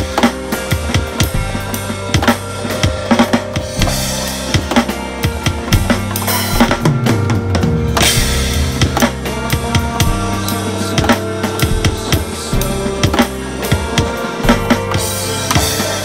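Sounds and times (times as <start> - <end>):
held backing track notes: 0.0 - 16.0
rock drum groove: 0.0 - 16.0.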